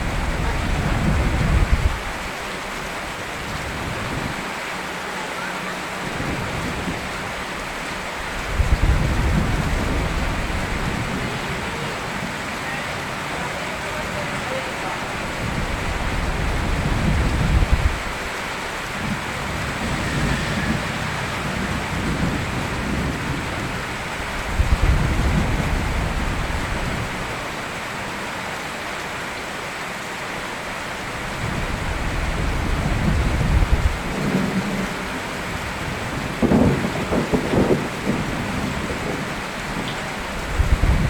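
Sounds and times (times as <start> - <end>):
thunder rumbling: 0.0 - 4.4, 6.0 - 27.4, 31.2 - 41.0
heavy rain: 0.0 - 41.0.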